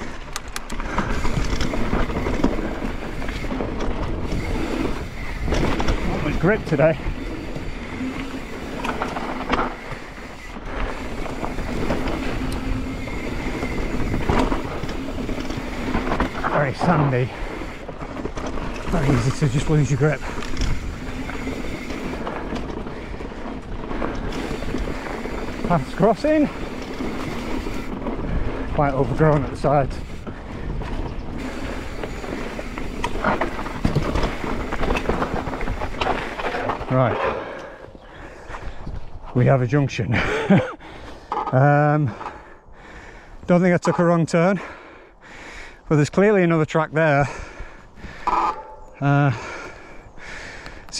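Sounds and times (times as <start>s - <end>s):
bike rattling: 0.0s - 50.9s
bike tyres rolling on dirt: 0.0s - 50.9s.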